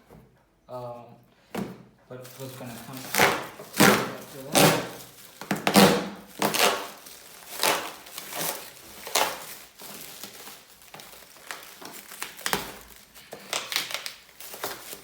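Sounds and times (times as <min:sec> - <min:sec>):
packaging crinkling: 0:02.2 - 0:15.0.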